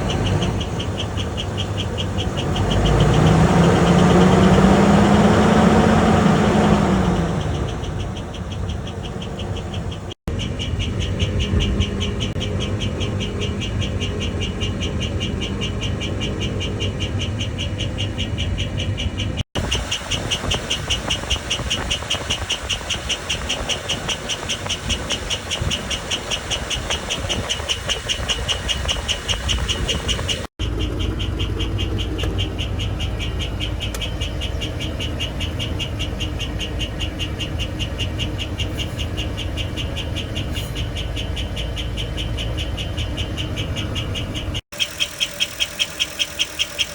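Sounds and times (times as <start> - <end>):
engine running: 0.0 - 46.9
rapid high chirp: 0.0 - 46.9.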